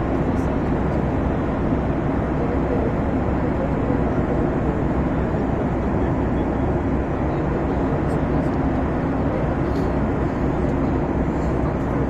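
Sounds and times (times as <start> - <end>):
airplane engines droning: 0.0 - 12.0.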